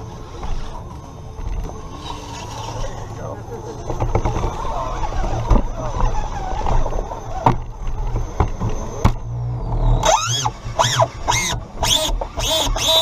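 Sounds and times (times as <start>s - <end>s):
electric motor running under load: 0.0s - 13.0s.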